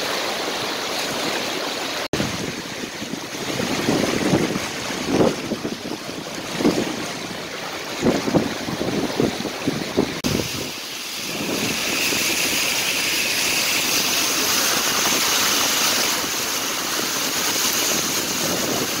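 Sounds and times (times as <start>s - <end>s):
tyres spraying through water: 0.0s - 19.0s
wind on microphone: 2.1s - 19.0s.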